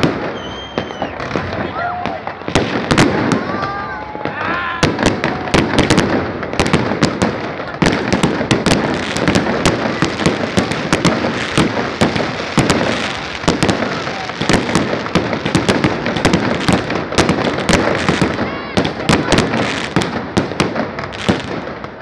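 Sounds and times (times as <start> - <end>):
fireworks cracks and bangs: 0.0 - 22.0.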